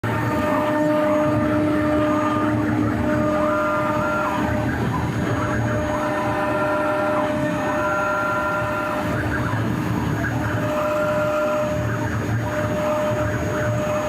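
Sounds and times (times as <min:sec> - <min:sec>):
engraving machine hum: 0:00.1 - 0:14.0
motor whines gliding up and down: 0:00.1 - 0:14.0.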